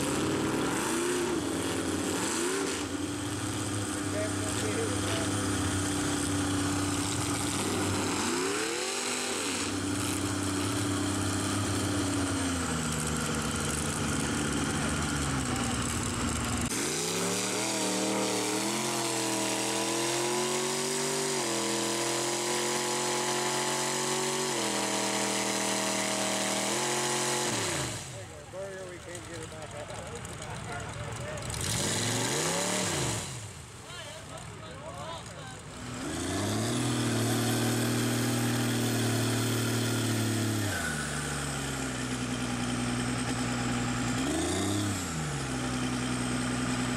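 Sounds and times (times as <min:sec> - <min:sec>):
truck engine revving: 0:00.0 - 0:33.8, 0:35.6 - 0:46.9.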